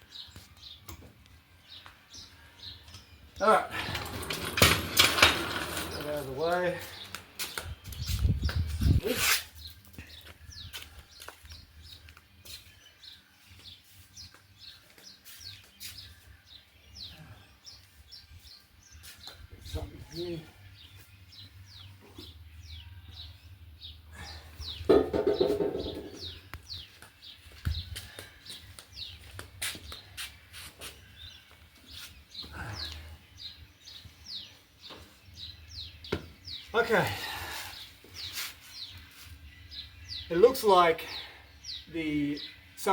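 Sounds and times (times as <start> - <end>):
small birds chirping: 0.0 - 4.3, 5.6 - 42.9.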